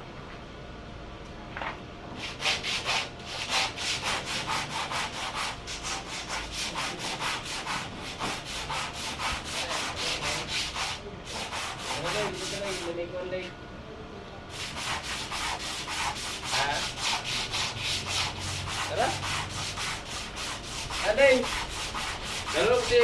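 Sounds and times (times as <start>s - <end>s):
sandpaper rubbing wood: 2.2s - 13.0s, 14.5s - 23.0s.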